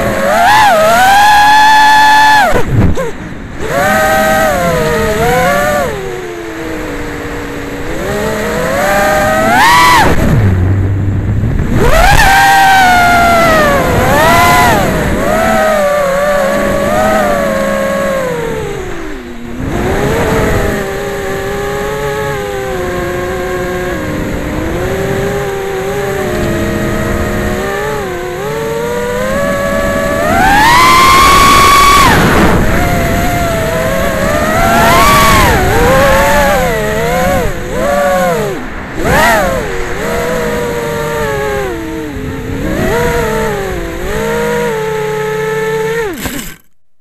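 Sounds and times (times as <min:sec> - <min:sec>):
drone motors whining: 0:00.0 - 0:46.8.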